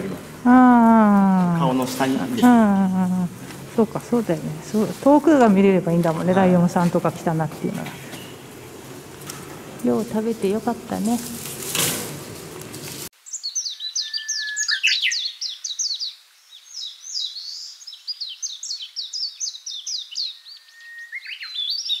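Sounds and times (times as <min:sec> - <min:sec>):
songbird singing: 0:00.0 - 0:11.4, 0:13.2 - 0:22.0
steady background hiss: 0:00.0 - 0:20.3.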